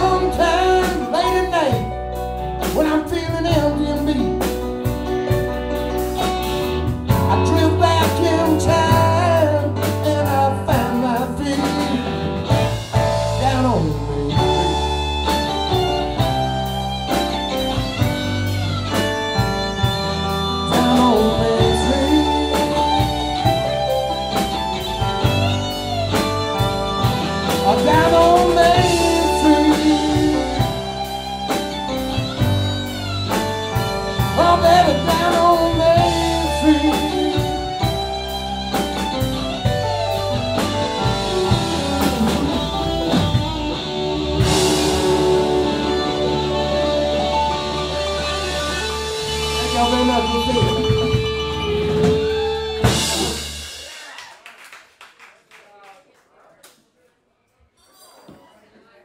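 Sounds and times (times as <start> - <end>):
keyboard: 0.0 - 53.7
electric guitar: 0.0 - 54.1
bass: 0.0 - 54.2
drum-kit beat: 0.0 - 54.4.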